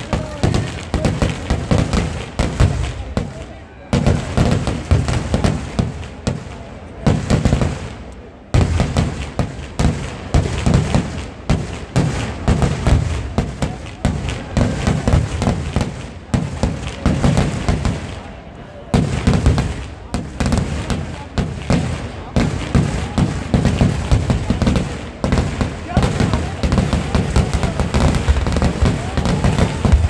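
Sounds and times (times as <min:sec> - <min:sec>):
firecrackers exploding: 0:00.0 - 0:30.0.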